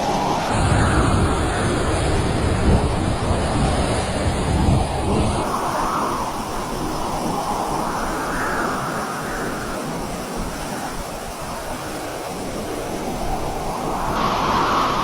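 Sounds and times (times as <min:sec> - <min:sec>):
strong storm wind rushing: 0:00.0 - 0:15.0.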